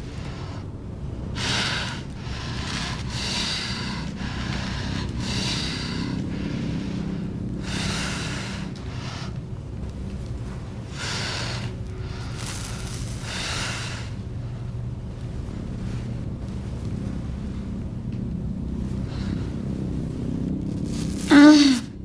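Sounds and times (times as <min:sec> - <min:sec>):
heavy ragged breathing: 0:00.0 - 0:22.0
low steady hum: 0:00.0 - 0:22.0.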